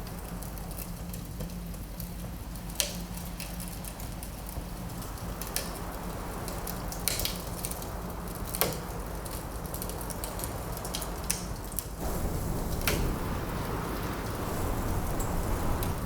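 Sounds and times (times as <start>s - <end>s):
low wind: 0.0s - 16.0s
wood fire crackling and popping: 0.0s - 16.0s.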